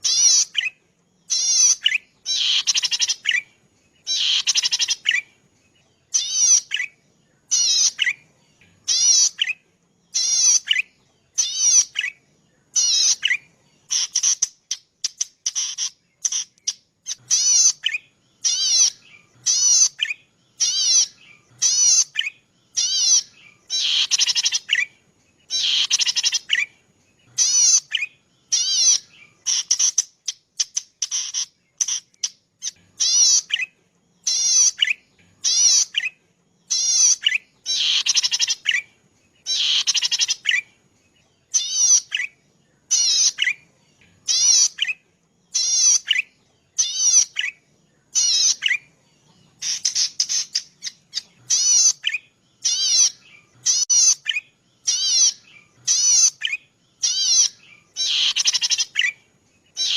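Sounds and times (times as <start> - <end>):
bird calling in buzzy trills: 0.0 - 59.9.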